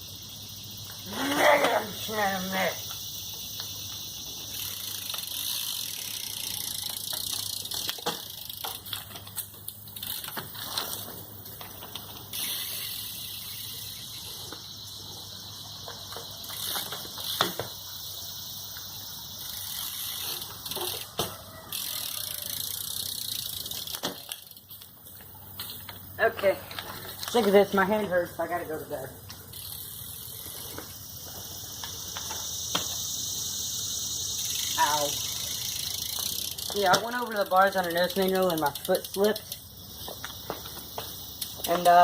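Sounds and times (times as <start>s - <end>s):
bike tyres on pavement: 0.0s - 42.0s.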